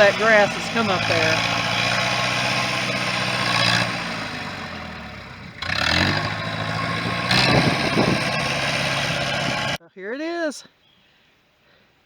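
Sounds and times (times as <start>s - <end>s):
diesel tractor engine revving: 0.0s - 9.8s.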